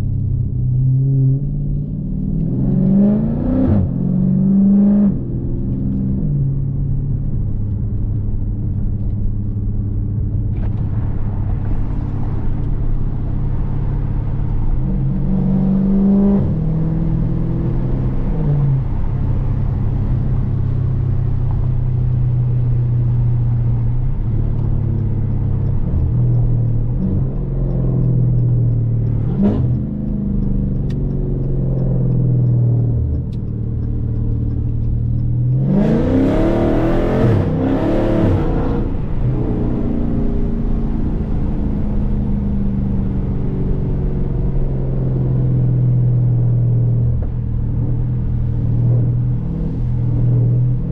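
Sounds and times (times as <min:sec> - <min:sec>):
car engine running: 0:05.7 - 0:50.9.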